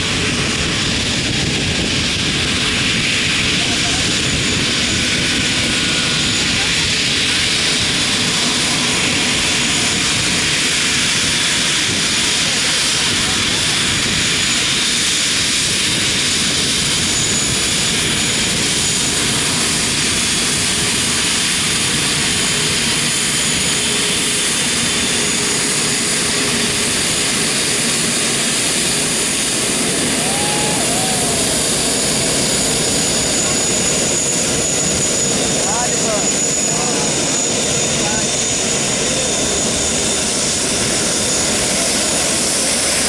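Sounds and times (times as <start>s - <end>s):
jet engines running: 0.0s - 43.0s.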